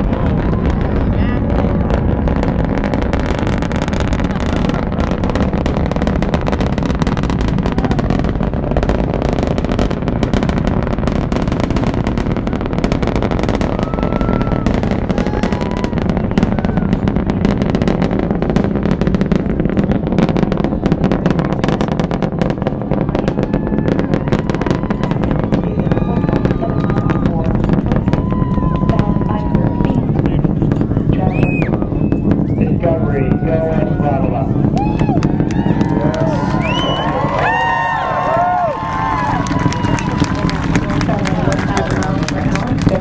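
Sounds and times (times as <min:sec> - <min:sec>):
rocket engines rumbling and crackling: 0:00.0 - 0:43.0.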